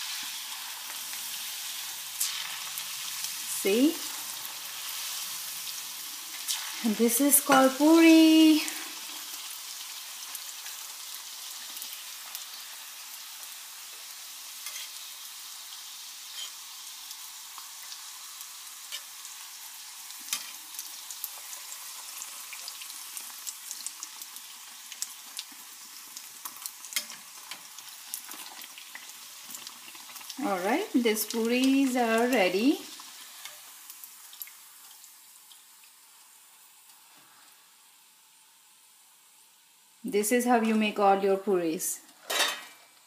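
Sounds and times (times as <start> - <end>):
oil sizzling: 0.0 - 43.0.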